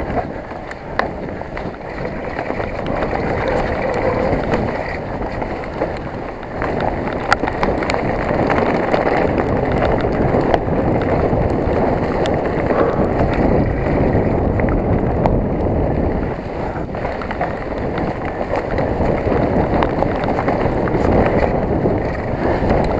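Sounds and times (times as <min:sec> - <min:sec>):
bike clicks and rattles: 0:00.0 - 0:22.9
bike tyre rumble: 0:00.0 - 0:22.9
wind on microphone: 0:00.0 - 0:22.9.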